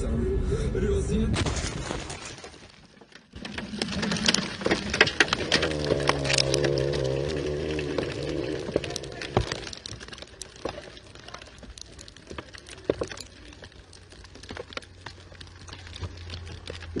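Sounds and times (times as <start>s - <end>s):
sharp clicks and cracks: 1.5s - 17.0s.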